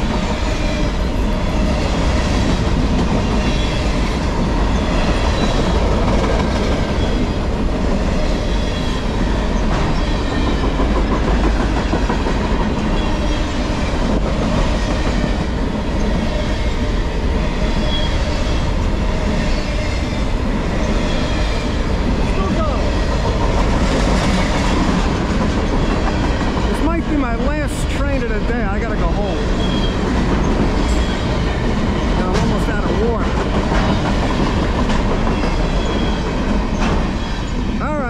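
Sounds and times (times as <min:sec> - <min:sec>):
clickety-clack over rail joints: 0:00.0 - 0:37.8
train wheels rumbling on rails: 0:00.0 - 0:38.0.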